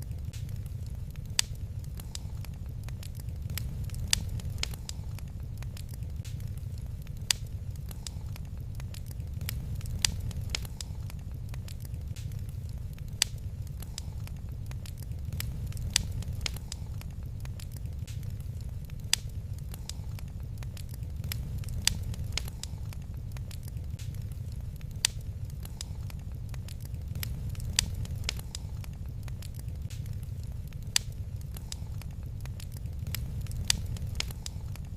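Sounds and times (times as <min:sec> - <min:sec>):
low rumble: 0:00.0 - 0:34.9
wood fire crackling: 0:00.0 - 0:34.9.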